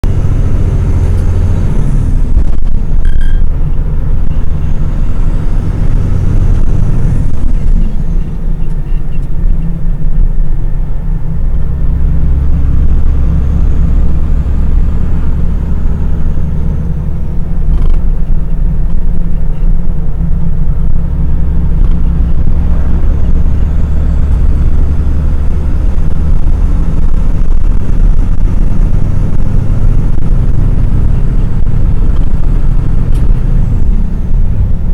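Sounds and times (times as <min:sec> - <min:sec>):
diesel truck engine rumble: 0:00.0 - 0:34.9
road noise: 0:00.0 - 0:34.9.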